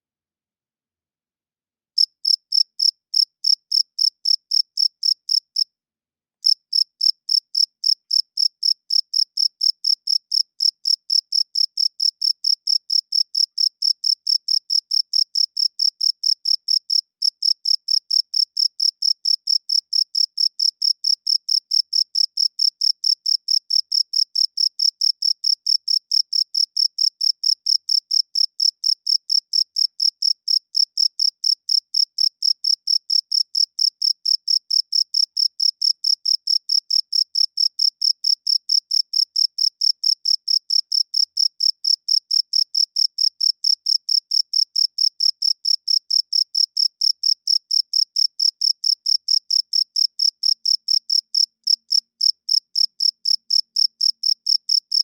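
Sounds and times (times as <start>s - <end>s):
cricket chirping: 2.0s - 5.6s, 6.4s - 55.0s.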